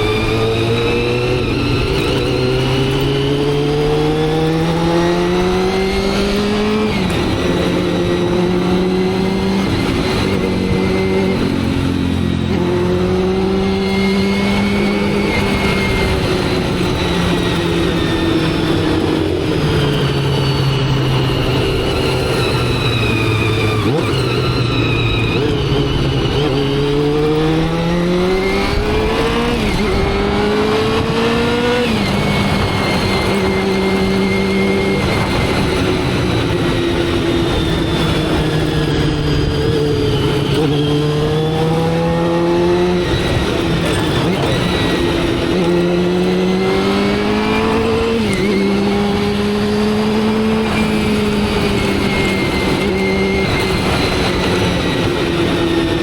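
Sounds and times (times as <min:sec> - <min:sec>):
motorcycle engine pulling through gears: 0:00.0 - 0:56.0.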